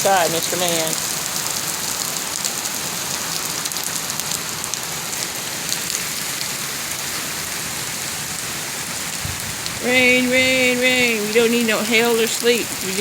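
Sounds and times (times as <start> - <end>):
rain pattering on hard surfaces: 0.0 - 13.0
raindrops ticking close by: 0.0 - 13.0.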